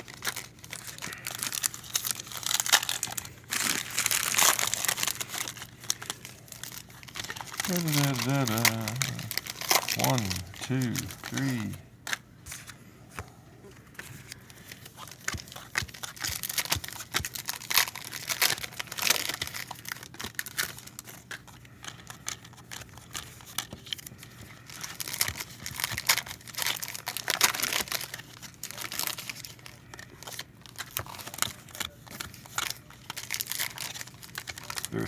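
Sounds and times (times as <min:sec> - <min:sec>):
wrappers crinkling and tearing: 0:00.0 - 0:12.8, 0:13.9 - 0:35.0
faint steady hum: 0:00.0 - 0:35.0.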